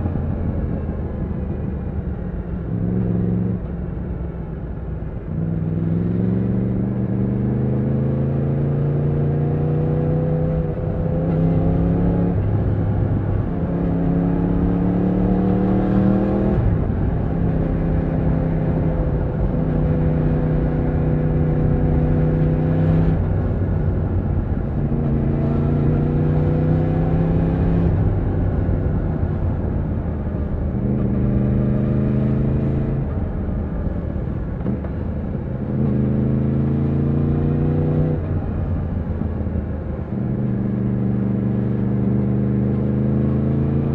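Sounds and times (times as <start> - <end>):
motorcycle engine accelerating: 5.3 - 43.9.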